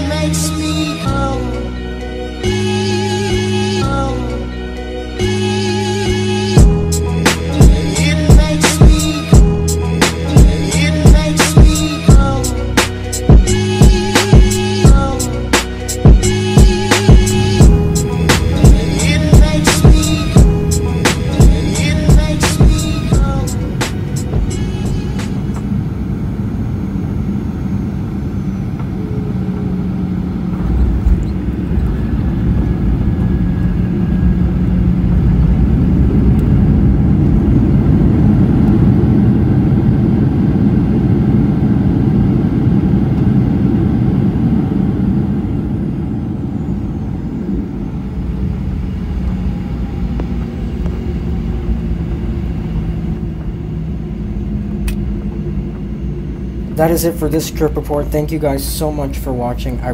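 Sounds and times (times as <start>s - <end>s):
jet engine cabin rumble: 5.3s - 59.9s.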